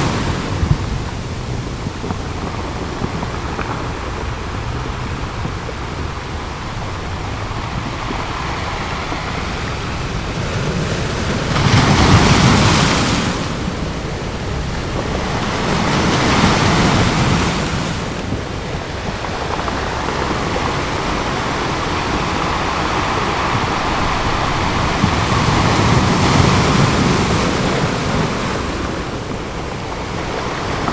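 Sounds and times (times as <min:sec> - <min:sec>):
ocean waves breaking on beach: 0:00.0 - 0:30.9.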